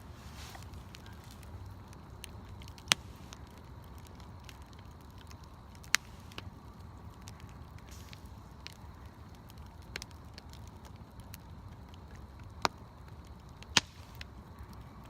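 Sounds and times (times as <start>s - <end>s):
campfire wood crackling: 0.0s - 15.0s
low background rumble: 0.0s - 15.0s
sharp loud wood snaps: 0.6s - 6.5s, 7.1s - 14.9s.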